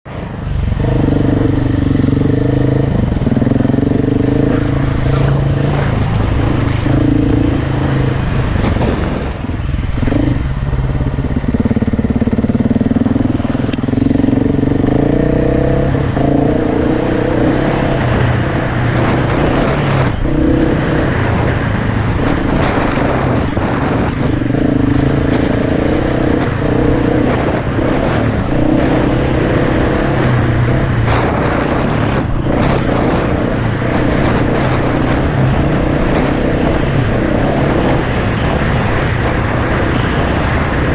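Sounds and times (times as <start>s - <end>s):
dirt bike engine revving: 0.7s - 40.9s.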